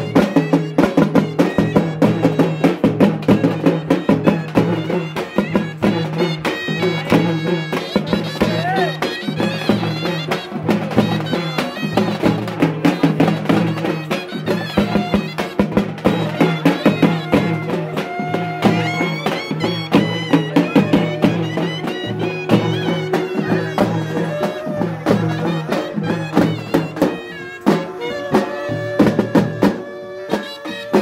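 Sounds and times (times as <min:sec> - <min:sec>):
drums beating fast rhythm: 0:00.0 - 0:31.0
reed wind instrument melody: 0:00.0 - 0:31.0.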